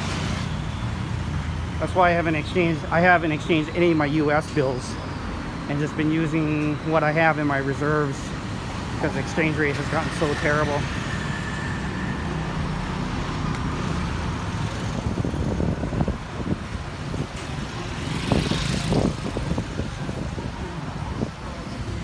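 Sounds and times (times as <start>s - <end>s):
rumble of passing vehicles: 0.0s - 22.0s.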